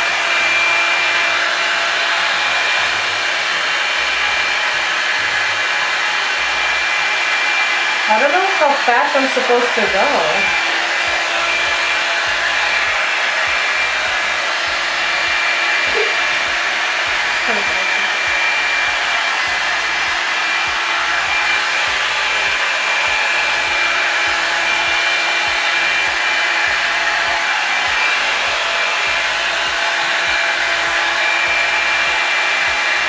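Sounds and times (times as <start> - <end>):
hot-air brush blowing: 0.0 - 33.0.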